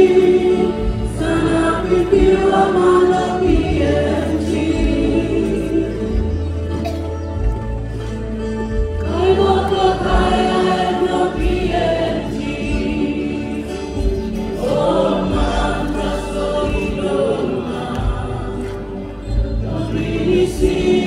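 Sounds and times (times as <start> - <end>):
choir singing gospel: 0.0 - 7.0, 7.8 - 21.0.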